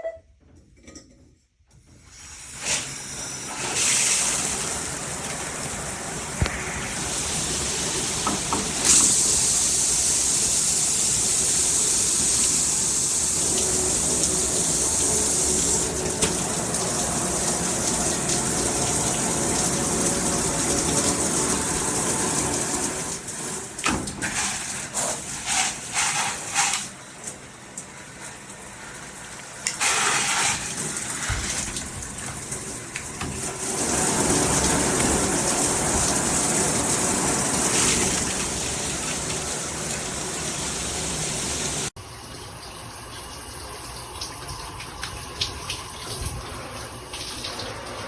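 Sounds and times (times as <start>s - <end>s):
shower water spraying: 2.1s - 48.0s.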